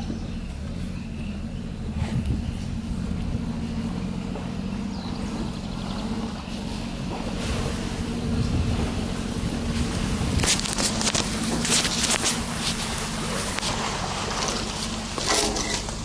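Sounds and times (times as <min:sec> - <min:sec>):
engine running at low speed: 0:00.0 - 0:16.0.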